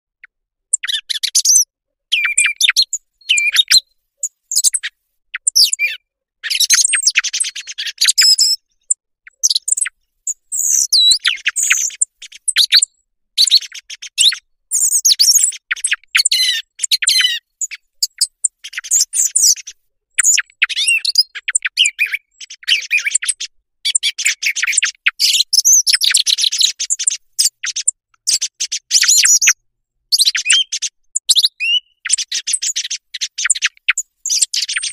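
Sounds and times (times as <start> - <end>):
song thrush singing: 0.2 - 34.9.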